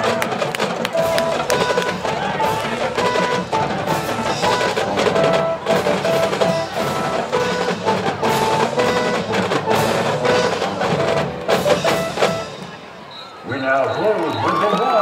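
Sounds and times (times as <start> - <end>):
snare and bass drums playing: 0.0 - 12.9.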